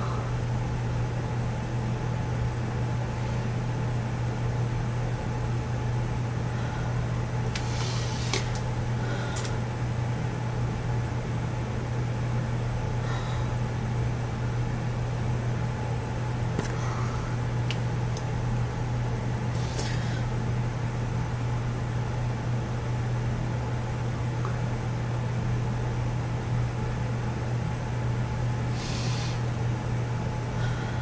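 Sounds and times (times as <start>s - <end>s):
low hum and hiss: 0.0s - 31.0s.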